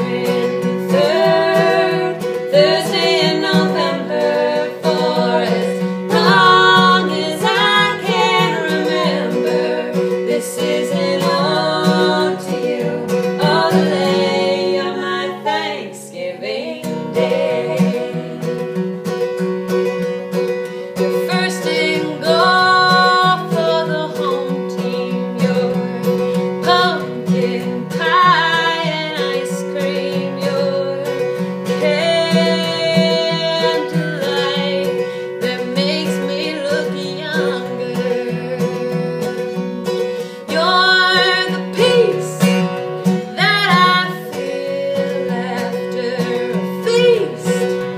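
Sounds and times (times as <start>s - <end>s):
acoustic guitar: 0.0s - 47.9s
women singing folk song: 0.0s - 47.9s.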